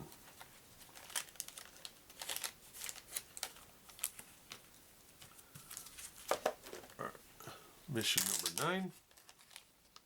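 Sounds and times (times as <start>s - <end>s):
cards and packaging rustling: 0.2s - 7.0s, 8.0s - 10.0s.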